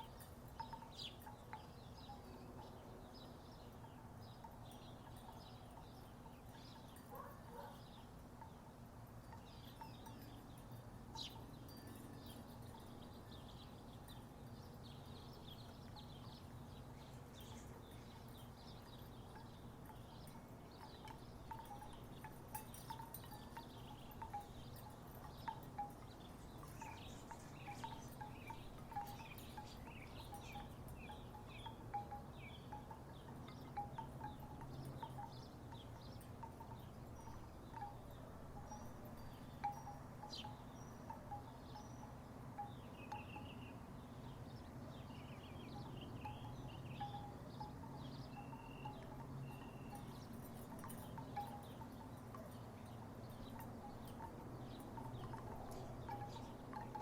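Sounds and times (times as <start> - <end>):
wooden wind chimes clacking: 0.0 - 57.0.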